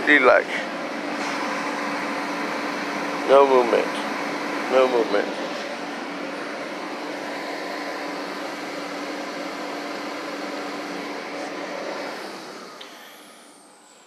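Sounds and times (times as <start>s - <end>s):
fan-like mechanical rush: 0.0s - 14.0s
high motor whine spinning down: 0.0s - 14.0s
low machinery hum: 0.0s - 14.0s.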